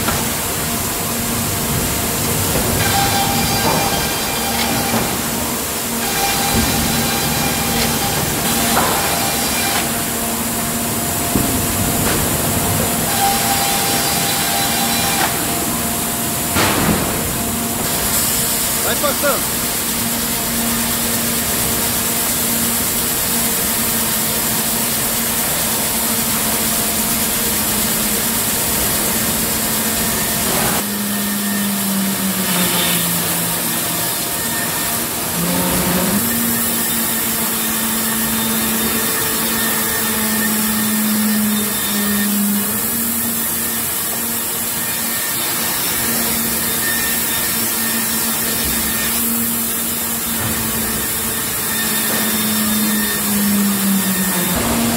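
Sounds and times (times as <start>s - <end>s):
edger saw droning: 0.3s - 18.1s, 27.0s - 54.9s.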